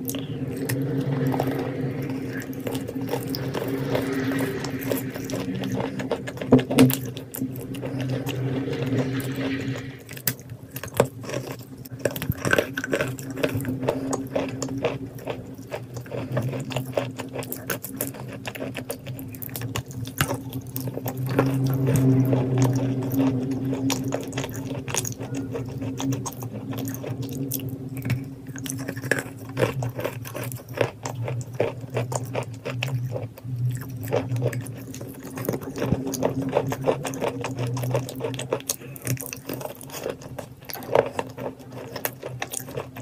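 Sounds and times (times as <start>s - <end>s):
chalk crunching while chewed: 0.0s - 8.6s, 10.1s - 43.0s
steady low hum: 0.0s - 43.0s.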